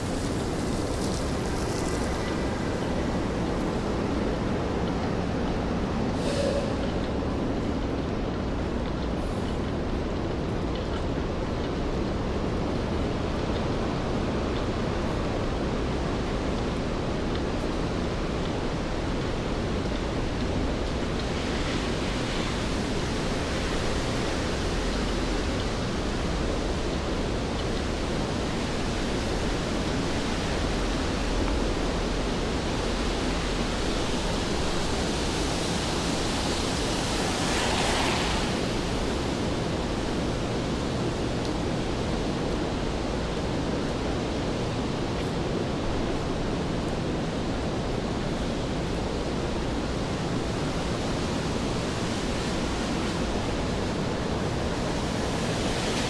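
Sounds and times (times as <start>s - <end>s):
rain hissing on wet street: 0.0s - 56.0s.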